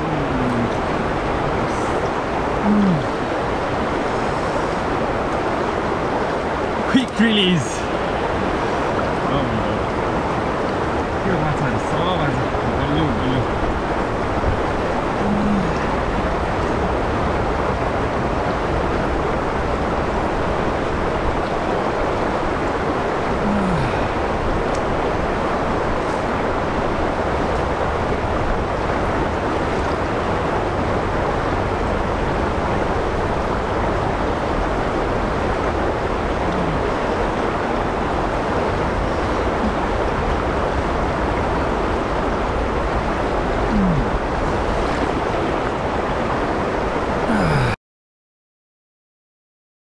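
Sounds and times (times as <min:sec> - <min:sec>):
river water rushing over rocks: 0:00.0 - 0:47.8.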